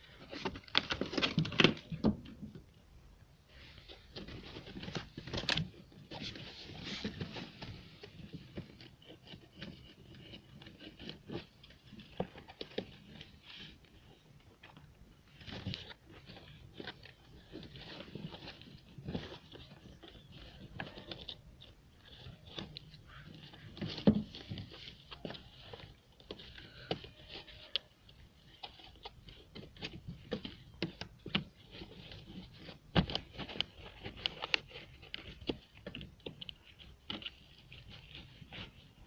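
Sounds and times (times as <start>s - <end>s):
rustling and scraping of trim: 0.0s - 2.8s, 3.5s - 39.0s.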